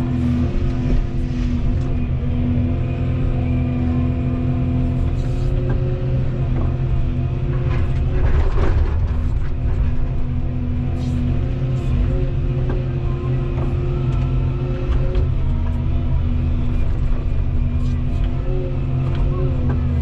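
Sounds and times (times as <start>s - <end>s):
excavator engine humming: 0.0s - 20.0s.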